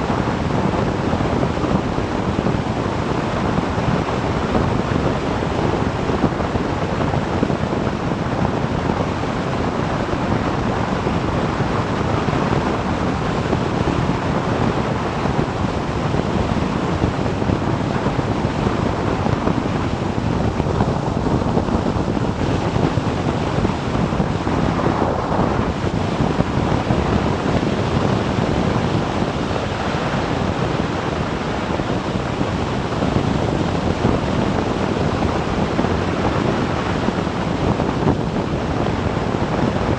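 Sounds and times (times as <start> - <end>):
motorcycle engine and road noise: 0.0 - 39.9
wind rush over microphone: 0.0 - 39.9.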